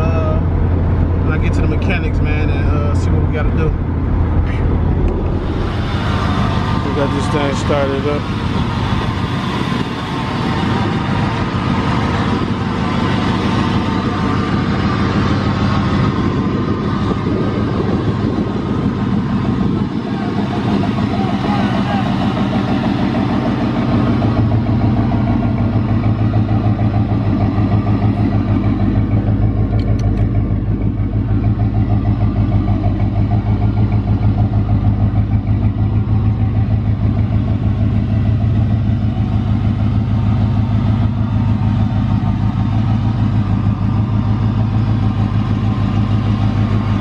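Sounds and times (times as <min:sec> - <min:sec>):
car engine running steadily: 0:00.0 - 0:47.0.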